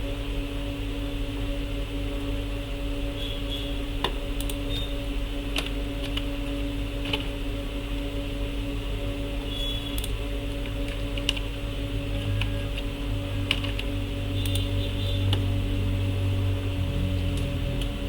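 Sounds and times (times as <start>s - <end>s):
electrical hum and hiss: 0.0s - 18.0s.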